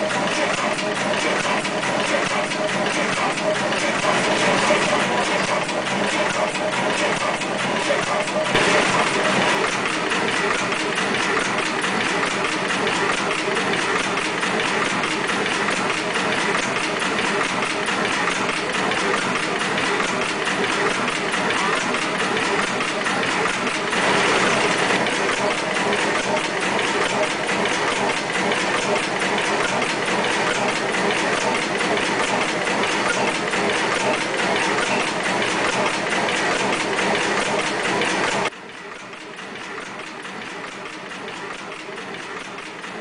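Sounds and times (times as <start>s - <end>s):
ship diesel engine clatter: 0.0s - 43.0s.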